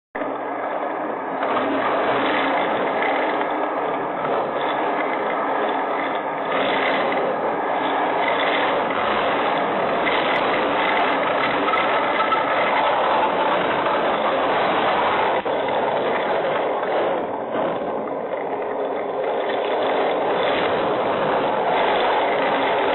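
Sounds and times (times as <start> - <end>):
strong wind and rain: 0.2 - 22.9.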